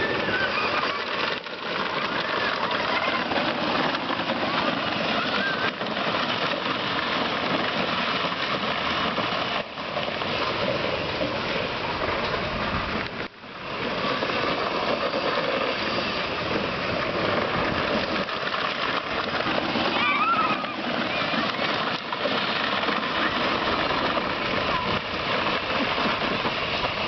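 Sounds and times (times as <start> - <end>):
toy car electric motors running: 0.0 - 27.0.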